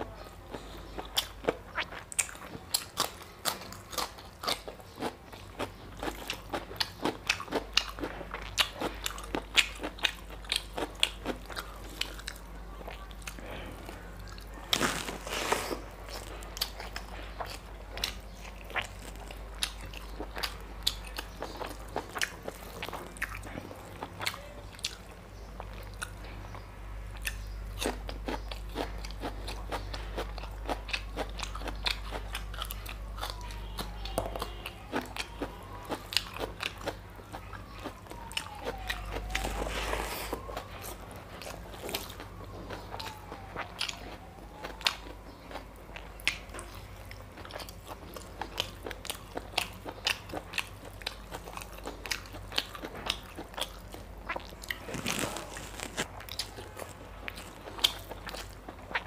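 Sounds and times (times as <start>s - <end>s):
man crunching cucumber: 0.0s - 26.2s, 27.1s - 59.0s
low steady hum: 0.0s - 59.0s.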